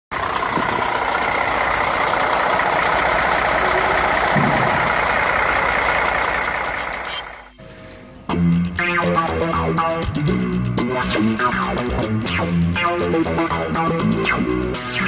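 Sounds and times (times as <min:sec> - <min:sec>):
diesel engine idling: 0:00.1 - 0:15.0.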